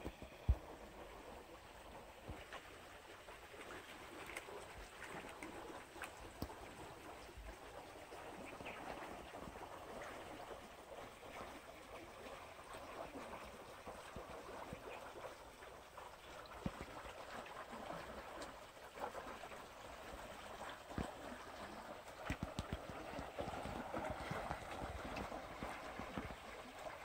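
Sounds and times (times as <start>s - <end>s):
flowing canal water: 0.0s - 27.0s.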